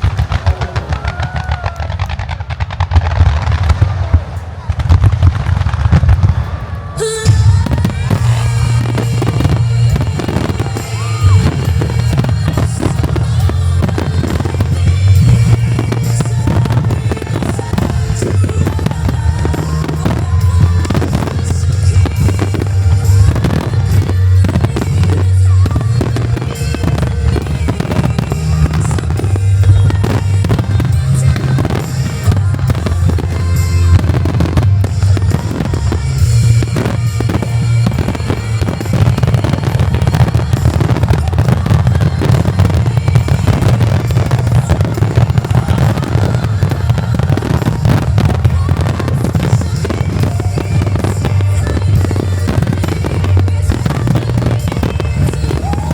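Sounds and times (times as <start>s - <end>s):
firework shells booming: 0.0s - 55.9s
music: 4.8s - 55.9s.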